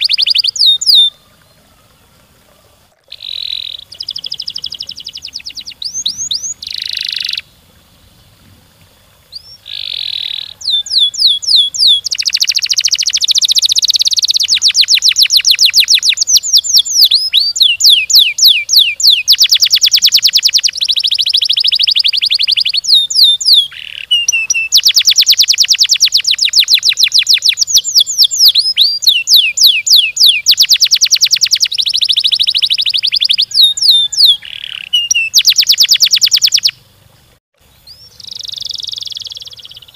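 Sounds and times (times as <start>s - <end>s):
canary singing fast trills: 0.0s - 8.3s, 9.1s - 36.9s, 37.6s - 39.9s.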